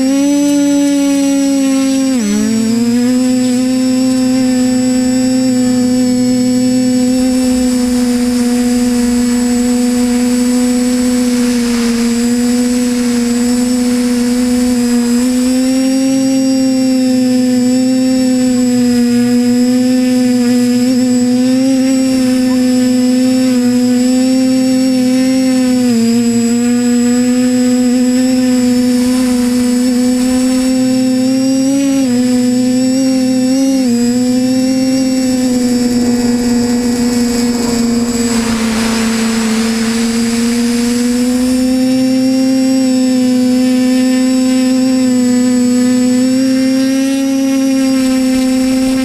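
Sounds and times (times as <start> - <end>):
drone motors buzzing: 0.0 - 49.0.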